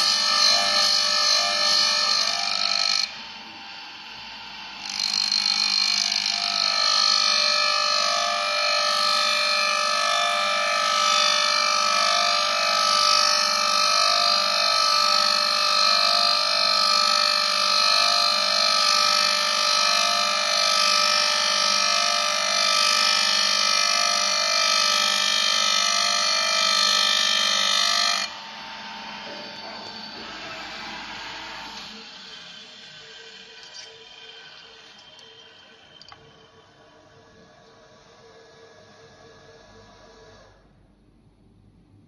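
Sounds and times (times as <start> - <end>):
pipe threading machine whining: 0.0 - 40.8.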